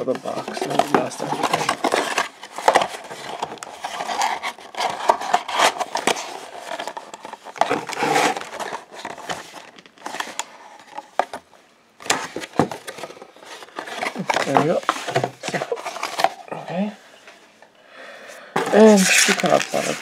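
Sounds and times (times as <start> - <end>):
cardboard rustling and scraping: 0.0 - 17.0, 18.6 - 20.0.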